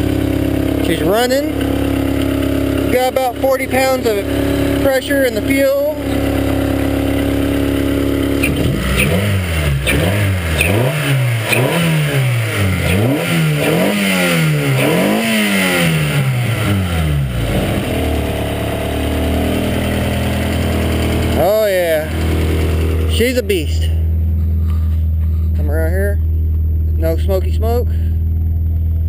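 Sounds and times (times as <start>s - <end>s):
race car engine revving: 0.0s - 25.6s.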